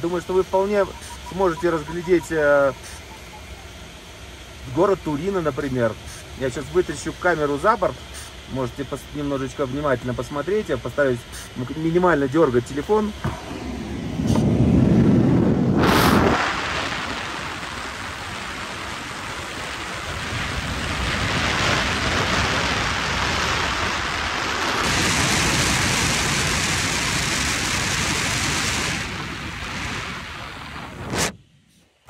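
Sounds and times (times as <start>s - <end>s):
airstream rushing over microphone: 0.0s - 26.4s.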